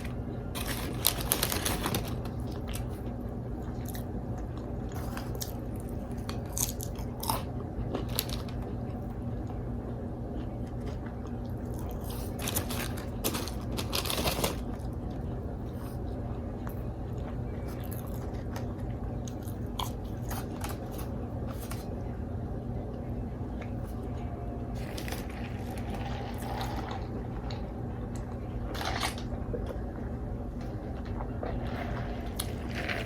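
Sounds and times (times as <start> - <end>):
chewing crunchy food: 0.0 - 9.6, 10.3 - 21.9, 24.8 - 30.0, 30.6 - 33.0
steady low hum: 0.0 - 33.0.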